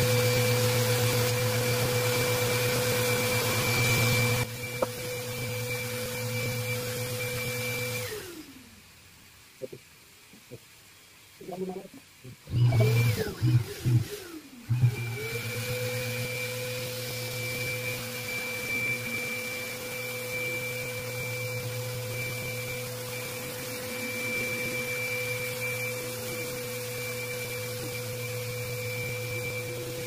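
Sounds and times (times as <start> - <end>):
orbital sander motor whine: 0.0 - 8.5, 12.5 - 30.0.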